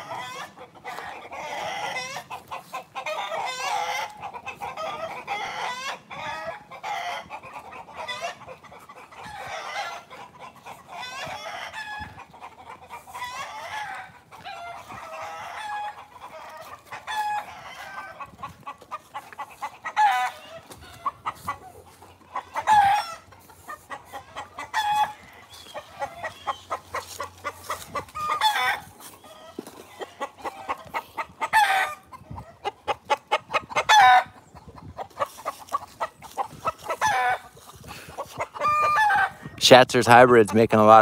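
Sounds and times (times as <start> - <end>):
chickens clucking: 0.0 - 41.0.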